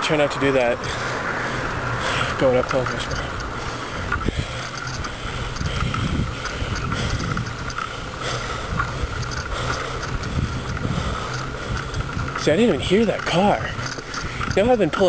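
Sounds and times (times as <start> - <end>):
bicycle road noise: 0.0 - 15.0
wind noise: 0.8 - 15.0.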